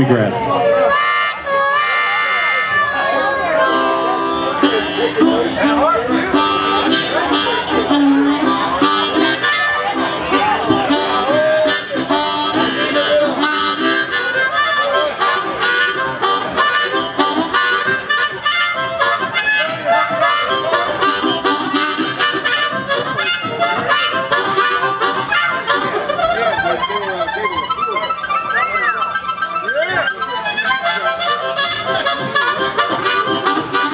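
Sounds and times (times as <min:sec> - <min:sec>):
blues harmonica chugging solo: 0:00.0 - 0:33.9.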